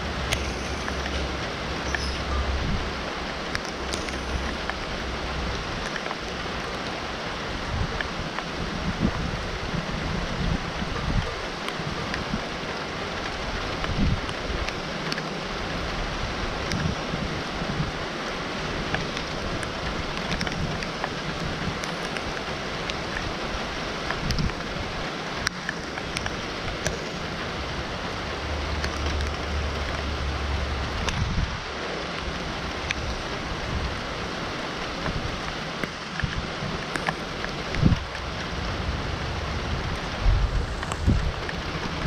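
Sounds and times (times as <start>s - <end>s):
raindrops ticking close by: 0.0s - 42.0s
steady rain: 0.0s - 42.0s.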